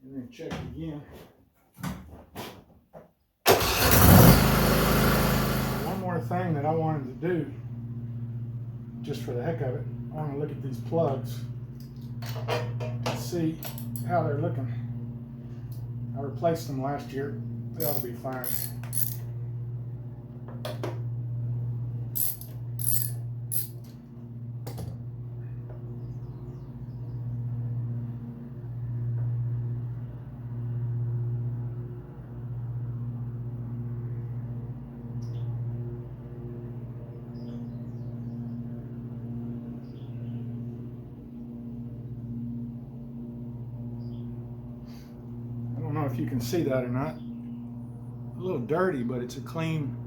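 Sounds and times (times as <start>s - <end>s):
steady low hum: 4.4s - 31.8s, 32.4s - 50.0s.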